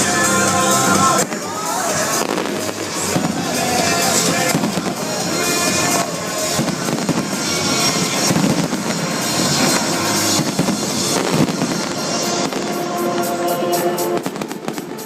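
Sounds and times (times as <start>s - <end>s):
fireworks crackling: 0.0s - 15.0s
music over loudspeakers: 0.0s - 15.0s.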